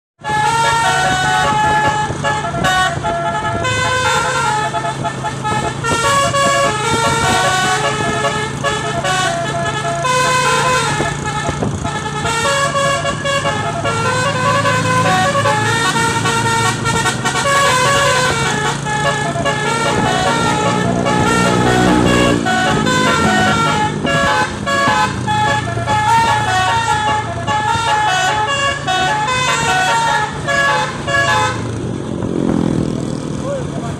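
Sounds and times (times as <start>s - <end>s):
musical bus horn: 0.2s - 31.8s
bus engine humming: 0.2s - 33.9s.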